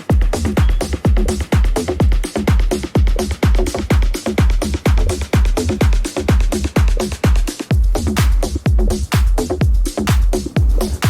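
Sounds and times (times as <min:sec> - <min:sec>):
electronic dance music: 0:00.0 - 0:11.0
kick drum: 0:00.0 - 0:11.0.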